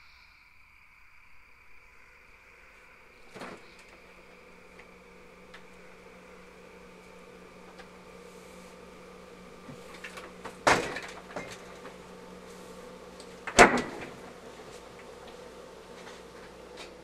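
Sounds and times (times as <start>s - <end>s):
faint steady hum: 0.0s - 17.0s
refrigerator door shutting: 3.2s - 17.0s.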